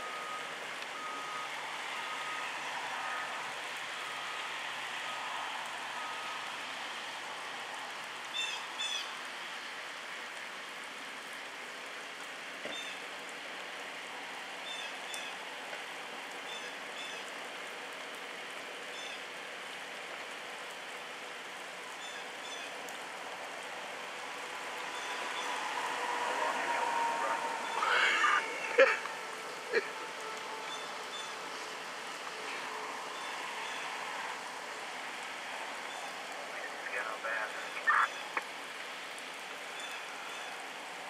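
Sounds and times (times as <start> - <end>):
rain falling on a flooded road: 0.0 - 41.0.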